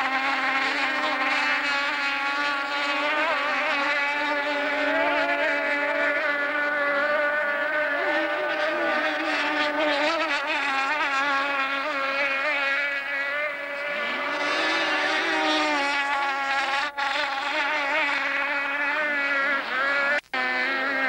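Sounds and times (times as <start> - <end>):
engine climbing in pitch: 0.0 - 21.0
powerboat engines whining: 0.0 - 21.0.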